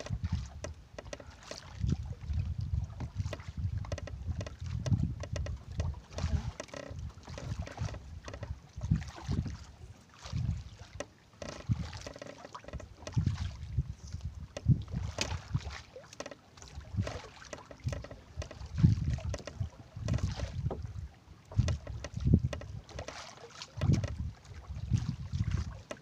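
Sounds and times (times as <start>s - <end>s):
wind buffeting microphone: 0.0s - 10.9s, 11.6s - 12.1s, 12.7s - 15.8s, 16.6s - 23.0s, 23.8s - 25.8s
water splashing against boat hull: 0.0s - 26.0s.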